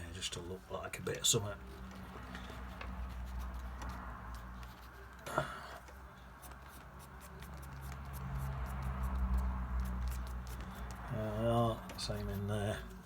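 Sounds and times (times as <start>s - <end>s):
paintbrush dabbing on paper: 1.6s - 5.3s, 5.9s - 13.0s.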